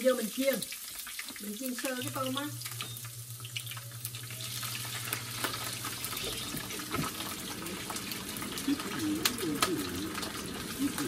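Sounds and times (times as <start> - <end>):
oil popping and crackling: 0.0 - 11.0
shrimp sizzling in oil: 0.0 - 11.0.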